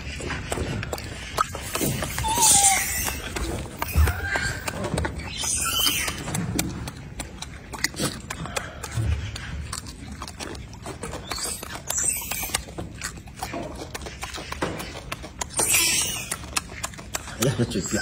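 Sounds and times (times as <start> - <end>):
monkey chewing and lip-smacking: 0.0 - 18.0.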